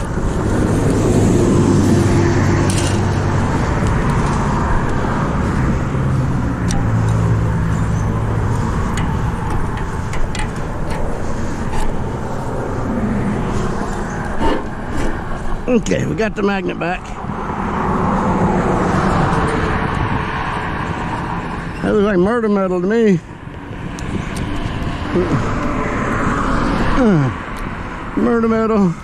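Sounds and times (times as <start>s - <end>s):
road traffic passing: 0.0s - 29.0s
vehicles droning by: 0.0s - 29.0s.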